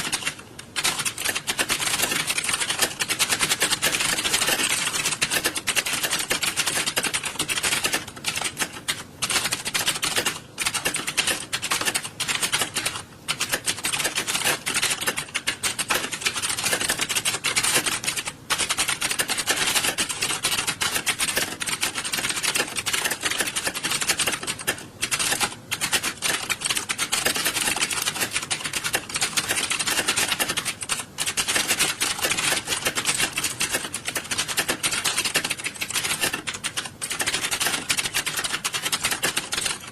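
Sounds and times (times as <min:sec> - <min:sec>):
many keyboards clattering: 0:00.0 - 0:39.9.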